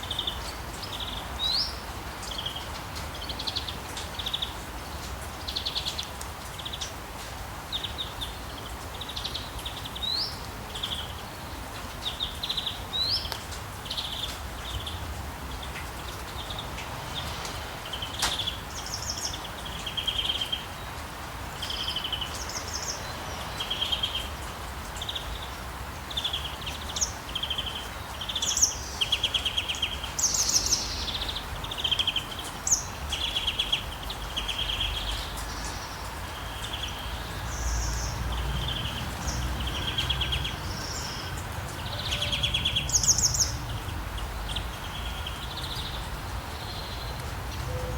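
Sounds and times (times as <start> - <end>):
rain hiss: 0.0 - 47.9.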